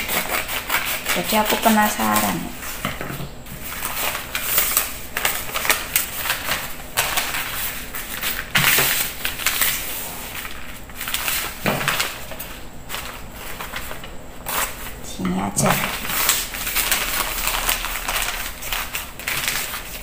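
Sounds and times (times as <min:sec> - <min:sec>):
newspaper rustling and crinkling: 0:00.0 - 0:15.0, 0:15.6 - 0:20.0.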